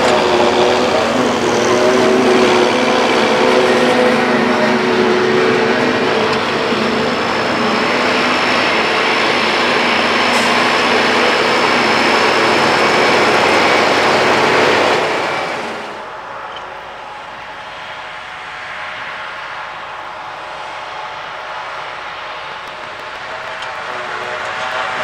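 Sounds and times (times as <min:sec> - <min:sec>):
diesel tractor engines: 0:00.0 - 0:25.0
trailers rolling and rattling: 0:00.0 - 0:25.0.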